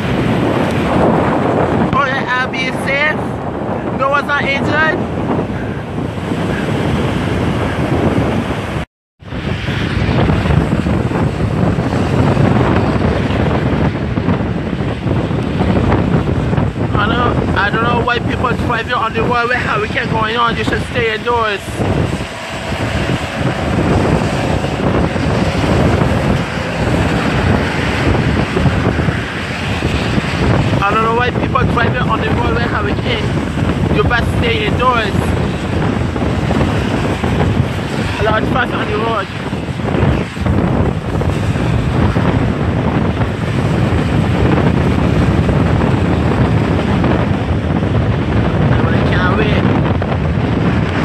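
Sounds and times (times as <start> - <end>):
rough sea surf: 0.0 - 51.0
wind buffeting microphone: 0.0 - 51.0.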